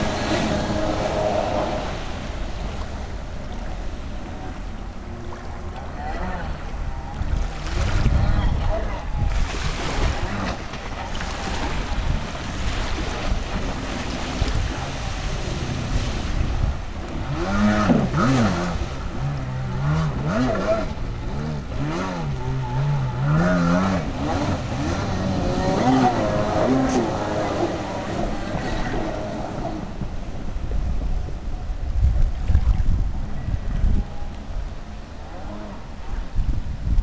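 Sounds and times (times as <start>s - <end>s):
jet ski engine revving: 0.0s - 31.0s, 33.2s - 36.2s
rush of wind and water: 0.0s - 37.0s.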